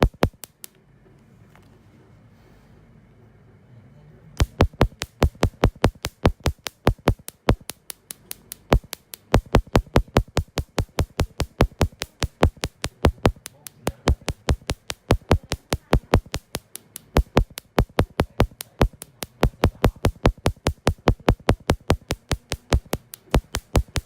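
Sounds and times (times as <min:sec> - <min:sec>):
rapid sharp clicks: 0:00.0 - 0:00.8, 0:04.4 - 0:24.0.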